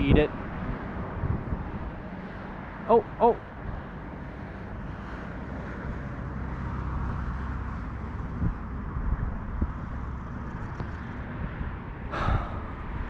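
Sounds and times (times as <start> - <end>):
wind buffeting microphone: 0.0 - 2.8, 3.4 - 13.0.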